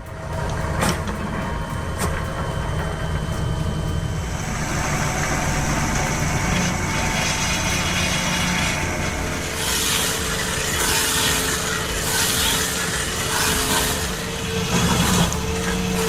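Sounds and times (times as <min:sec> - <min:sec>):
harsh hissing noise: 0:00.0 - 0:16.0
tractor diesel engine running: 0:00.0 - 0:16.0.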